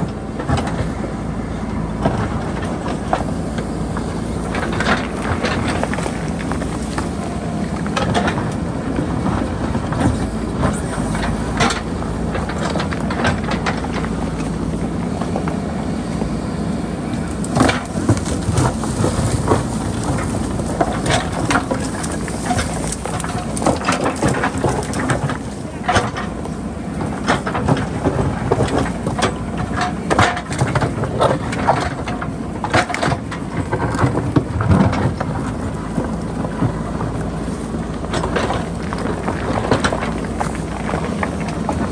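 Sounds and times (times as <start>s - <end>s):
diesel engine running: 0.0s - 41.9s
rocks clanking and crunching: 0.0s - 41.9s.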